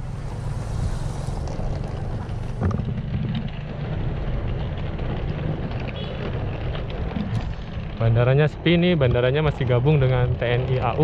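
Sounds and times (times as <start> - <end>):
cars rumbling: 0.0 - 11.0
wind buffeting microphone: 0.0 - 11.0.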